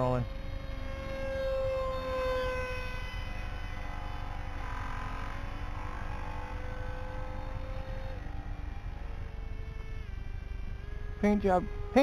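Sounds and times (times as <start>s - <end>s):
electric motor and propeller whine: 0.0s - 12.0s.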